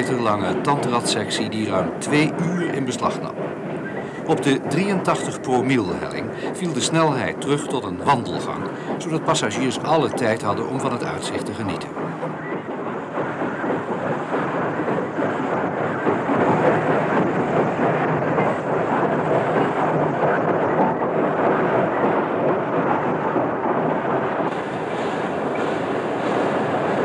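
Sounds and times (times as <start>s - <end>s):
steam locomotive exhaust roar: 0.0s - 27.0s.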